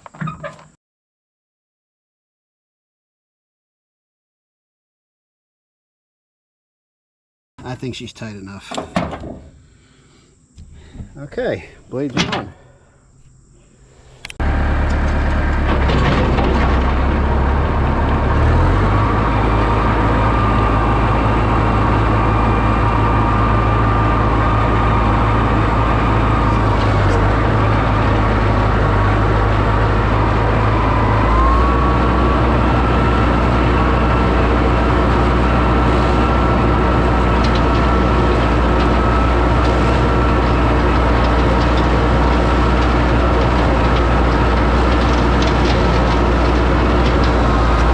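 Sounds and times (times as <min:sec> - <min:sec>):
tractor engine drone: 0:07.6 - 0:47.9
rotary mower whine: 0:08.7 - 0:47.9.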